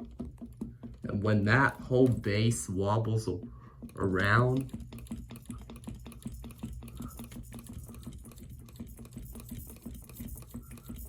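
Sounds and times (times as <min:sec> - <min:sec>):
ceiling fan humming: 0:00.0 - 0:11.0
rapid even ticking: 0:00.0 - 0:11.0.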